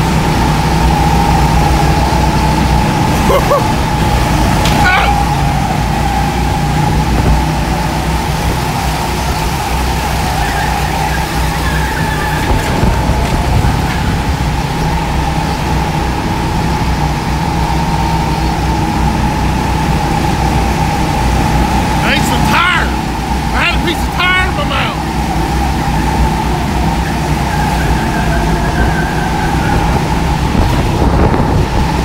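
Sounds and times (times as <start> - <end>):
go-kart motor droning: 0.0 - 32.0
high motor whine: 0.0 - 32.0.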